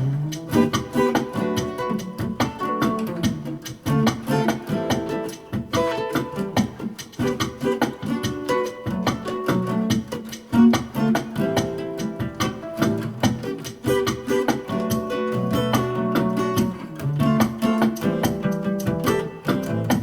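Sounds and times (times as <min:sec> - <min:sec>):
guitar plucked and strummed: 0:00.0 - 0:20.0.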